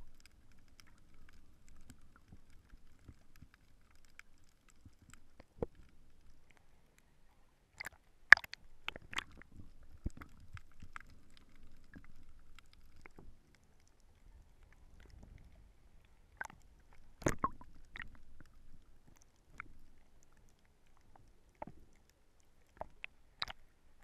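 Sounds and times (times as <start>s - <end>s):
sharp underwater clicks and snaps: 0.0s - 6.7s, 7.8s - 15.5s, 16.3s - 24.0s
muffled underwater water rumble: 0.0s - 6.9s, 8.6s - 24.0s.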